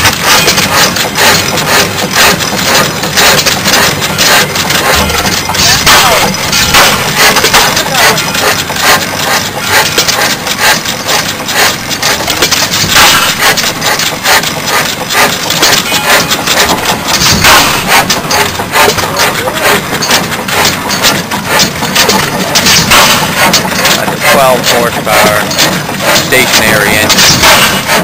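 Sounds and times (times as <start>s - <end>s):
stationary gas engines clattering: 0.0s - 28.0s.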